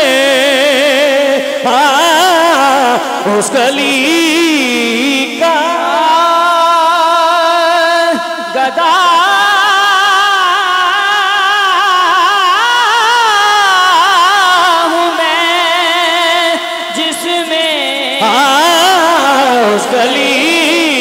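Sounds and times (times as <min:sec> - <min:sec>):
man singing: 0:00.0 - 0:21.0.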